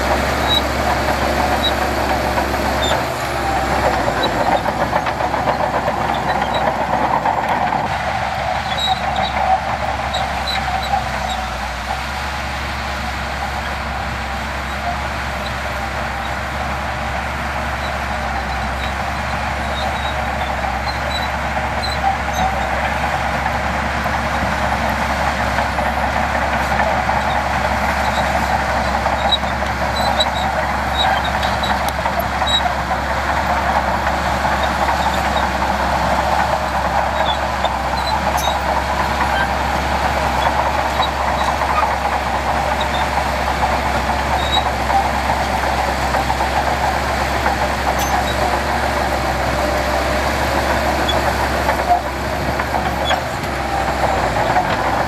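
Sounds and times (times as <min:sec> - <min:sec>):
heavy diesel machinery running: 0:00.0 - 0:55.0
metallic ticks and squeaks: 0:00.4 - 0:12.1, 0:17.6 - 0:23.4, 0:25.5 - 0:55.0.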